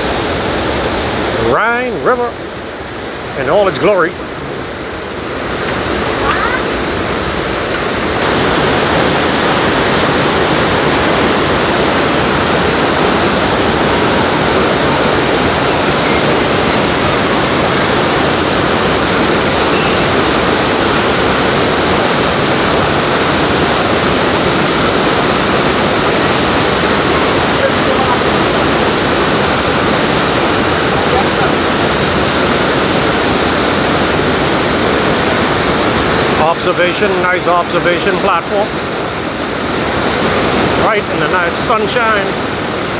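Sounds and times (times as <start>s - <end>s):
waterfall thundering: 0.0s - 42.9s.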